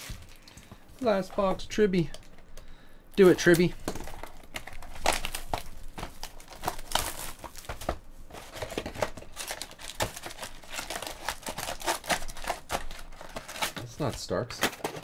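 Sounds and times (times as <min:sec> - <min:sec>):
card packs rustling: 0:00.0 - 0:15.0
plastic wrapping crinkling: 0:00.0 - 0:15.0.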